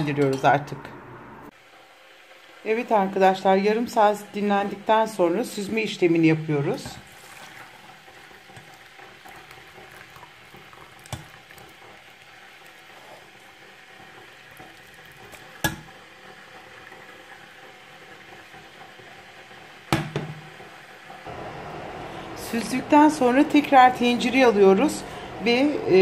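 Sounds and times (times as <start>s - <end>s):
pot bubbling on stove: 1.5s - 26.0s.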